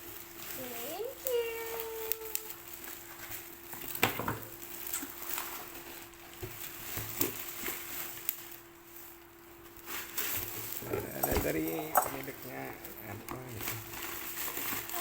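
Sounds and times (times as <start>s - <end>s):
faint steady hum: 0.0s - 15.0s
items being handled: 0.0s - 15.0s.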